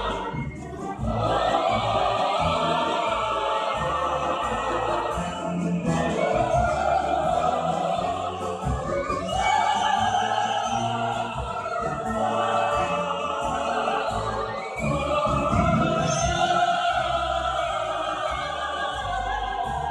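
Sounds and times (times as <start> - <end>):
opera singing: 0.0 - 19.9.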